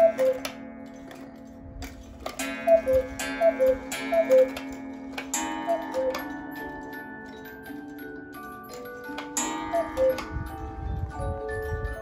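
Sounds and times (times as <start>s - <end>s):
cuckoo clock calling: 0.0s - 1.2s, 2.2s - 12.0s
clock movement clicks: 0.0s - 11.1s.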